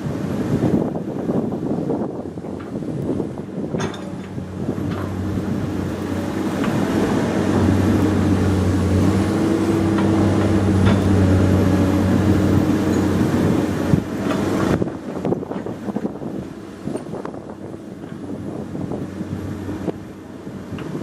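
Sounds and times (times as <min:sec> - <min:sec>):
excavator diesel engine running: 0:03.8 - 0:21.0.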